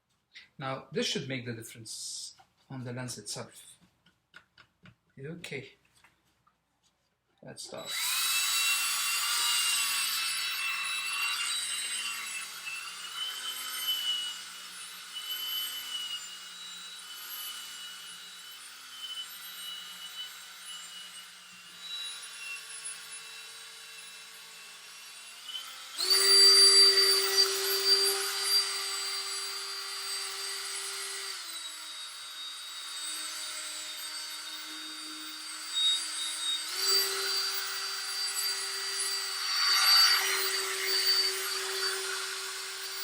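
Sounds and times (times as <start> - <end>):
electric drill polishing: 7.8 - 43.0.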